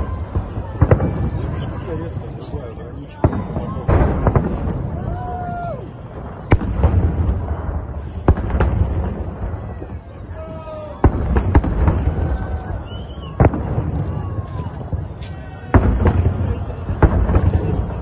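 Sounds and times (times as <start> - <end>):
fireworks bangs: 0.0 - 18.0
low rolling rumble of echoes: 0.0 - 18.0.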